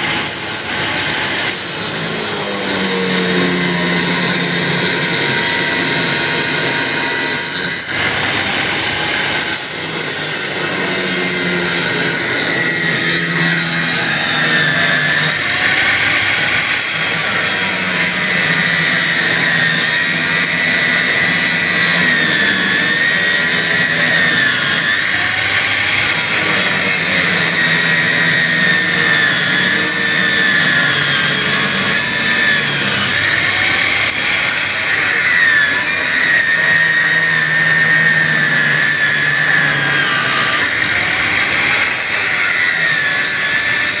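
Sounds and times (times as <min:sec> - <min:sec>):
angle grinder whining: 0:00.0 - 0:44.0.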